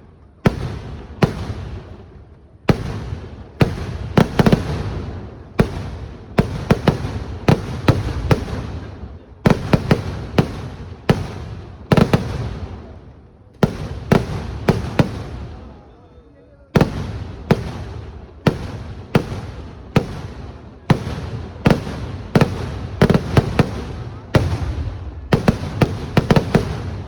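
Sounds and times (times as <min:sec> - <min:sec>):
fireworks loud bangs: 0:00.4 - 0:13.0, 0:13.6 - 0:15.9, 0:16.8 - 0:27.0.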